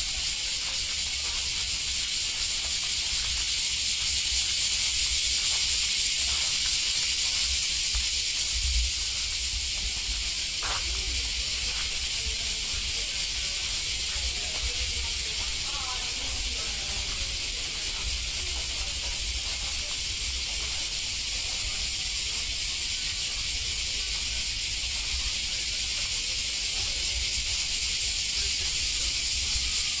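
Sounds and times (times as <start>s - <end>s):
faint voices: 0.0s - 30.0s
steady high hiss: 0.0s - 30.0s.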